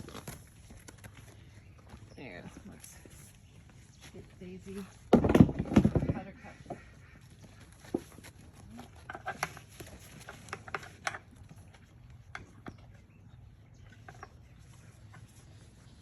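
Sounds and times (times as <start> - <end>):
donkeys crunching carrots: 0.0 - 16.0.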